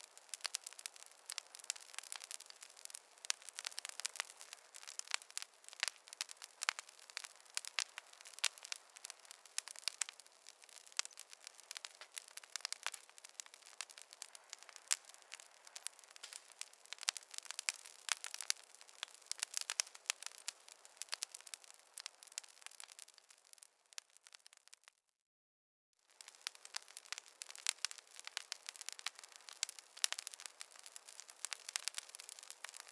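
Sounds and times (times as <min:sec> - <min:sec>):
campfire crackling: 0:00.0 - 0:25.0, 0:26.0 - 0:32.9.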